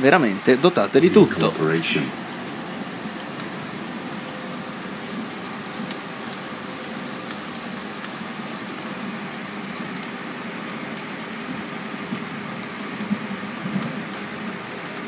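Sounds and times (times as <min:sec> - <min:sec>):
train running at speed: 0:00.0 - 0:15.0.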